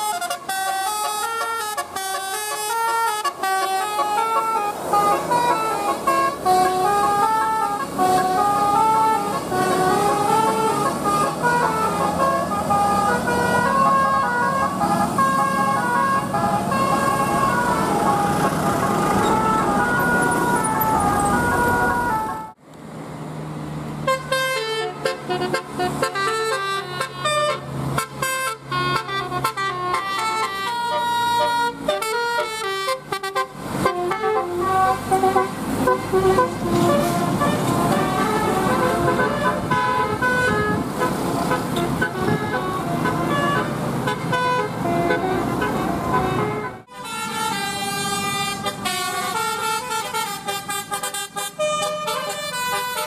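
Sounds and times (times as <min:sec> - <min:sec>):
multi-tone bus horn tunes: 0:00.0 - 0:22.6, 0:24.0 - 0:53.0.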